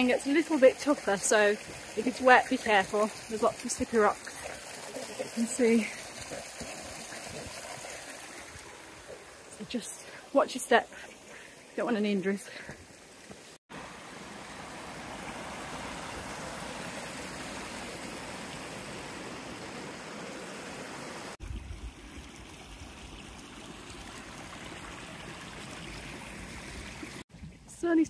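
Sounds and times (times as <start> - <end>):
stream running over rocks: 0.0 - 27.3.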